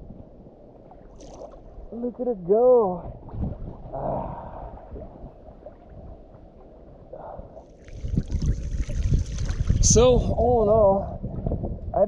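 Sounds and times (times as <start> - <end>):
muffled water sloshing: 0.0 - 11.9.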